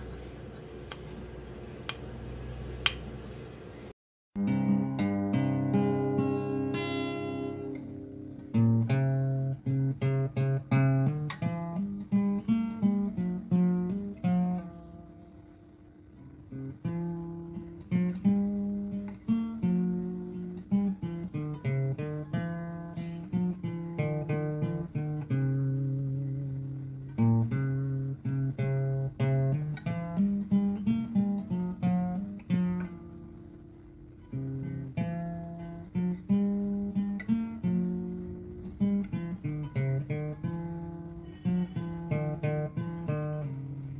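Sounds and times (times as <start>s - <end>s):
acoustic guitar music: 4.4s - 43.9s.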